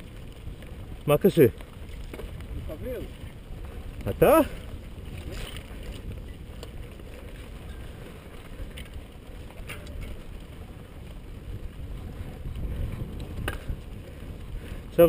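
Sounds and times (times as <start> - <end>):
bike clicks and rattles: 0.0 - 15.0
bike tyres rumbling on dirt: 0.0 - 15.0
wind on microphone: 0.0 - 15.0.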